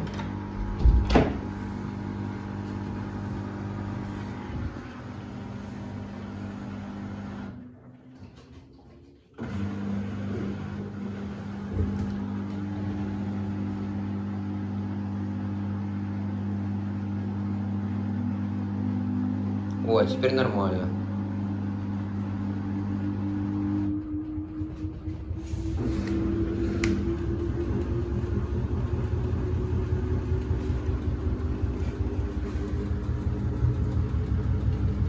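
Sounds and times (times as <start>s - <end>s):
washer-dryer motor hum: 0.0s - 35.0s.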